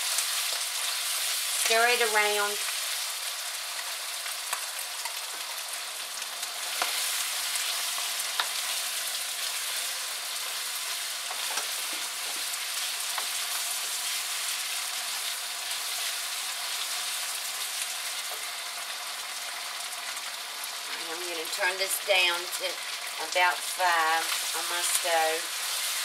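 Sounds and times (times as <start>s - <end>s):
chicken sizzling in a wok: 0.0s - 26.0s.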